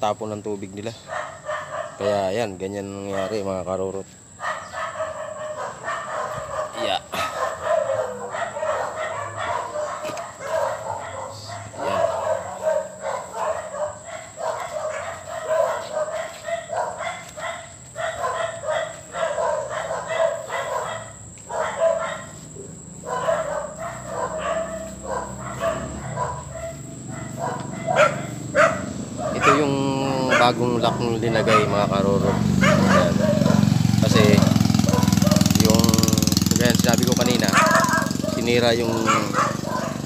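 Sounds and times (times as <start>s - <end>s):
dog barking: 0.9s - 40.0s.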